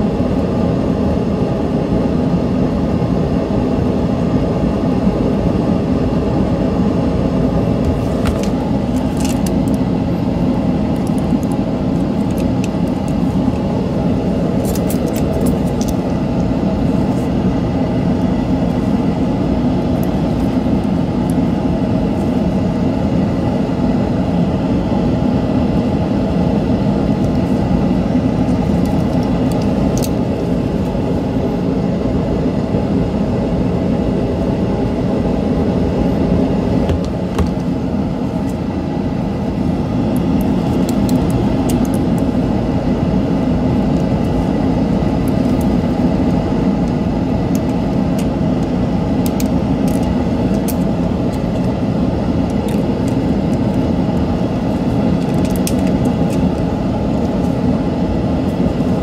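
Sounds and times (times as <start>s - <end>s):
rumbling background hum: 0.0s - 59.0s.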